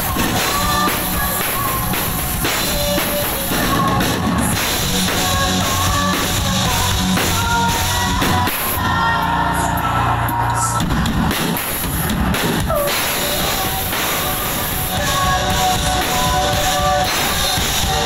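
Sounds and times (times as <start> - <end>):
woman singing: 0.0 - 11.0, 12.6 - 18.0
drum kit: 0.0 - 18.0
live rock band playing: 0.0 - 18.0.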